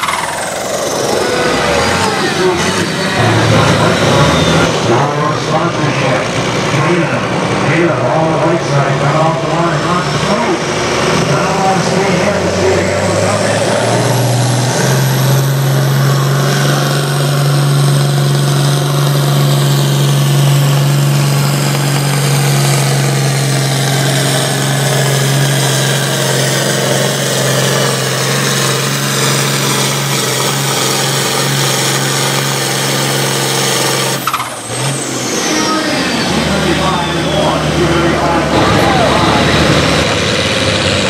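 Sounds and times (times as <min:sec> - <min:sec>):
tractor diesel engine at high revs: 0:00.0 - 0:41.0.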